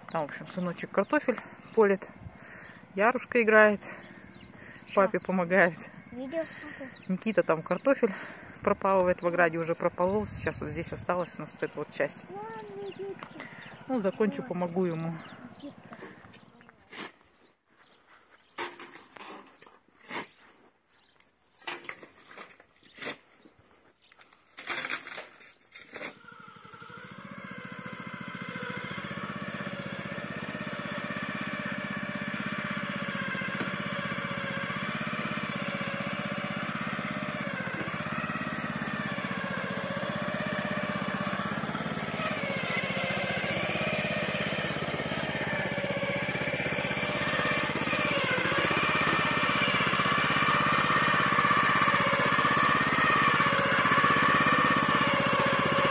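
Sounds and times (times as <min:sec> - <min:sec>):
small petrol engine running: 0:00.0 - 0:16.7, 0:24.6 - 0:55.9.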